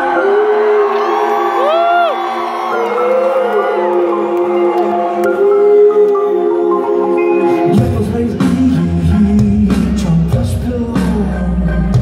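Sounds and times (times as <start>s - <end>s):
live indie band music: 2.3s - 12.0s.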